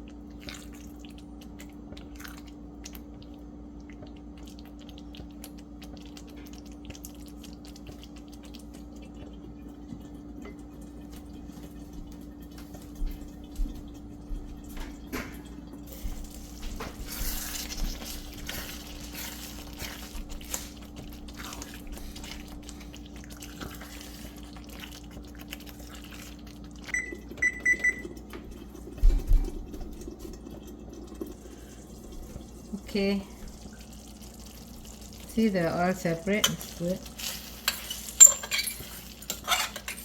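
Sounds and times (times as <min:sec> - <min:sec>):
gravy bubbling in pot: 0:00.0 - 0:38.3.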